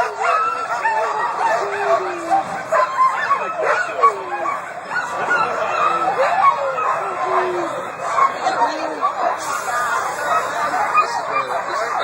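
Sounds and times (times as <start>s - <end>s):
sled dogs barking and yipping: 0.0s - 12.0s.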